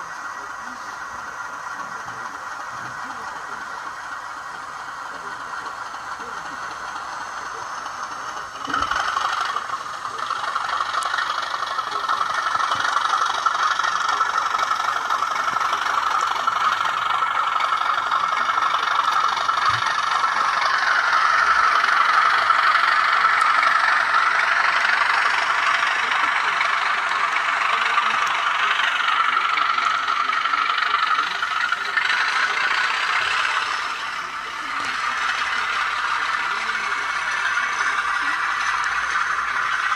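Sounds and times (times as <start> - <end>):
tinny model train diesel engine: 0.0 - 39.9.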